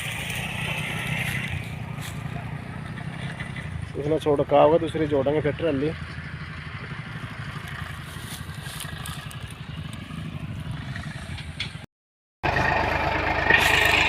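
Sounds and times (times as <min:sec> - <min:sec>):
tractor diesel engine running: 0:00.0 - 0:11.8, 0:12.4 - 0:14.0.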